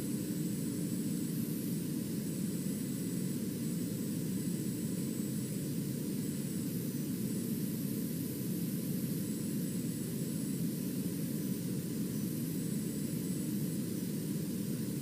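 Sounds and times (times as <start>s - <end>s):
faint high-pitched whines: 0.0s - 15.0s.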